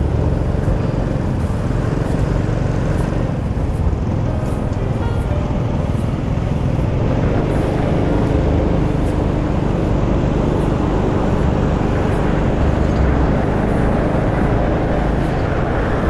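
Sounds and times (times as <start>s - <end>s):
motor scooter engine: 0.0s - 16.0s
wind and road noise: 0.0s - 16.0s.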